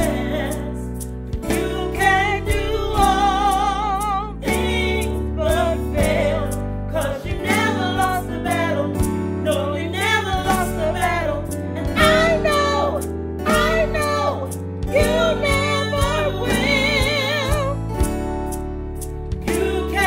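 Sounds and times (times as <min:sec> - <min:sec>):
person singing with vibrato: 0:00.0 - 0:17.9, 0:19.5 - 0:20.0.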